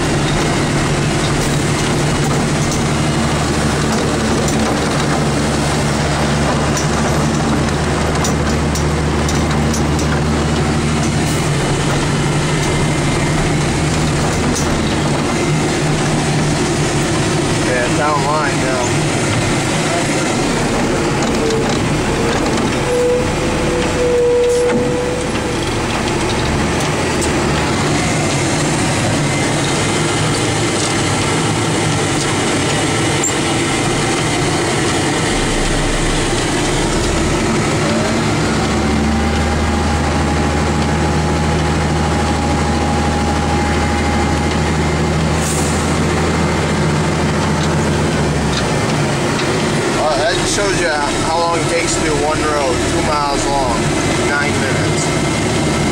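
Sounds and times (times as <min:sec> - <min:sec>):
deep hum: 0:00.0 - 0:55.9
rising whine: 0:00.0 - 0:55.9
truck engine and road noise: 0:00.0 - 0:55.9.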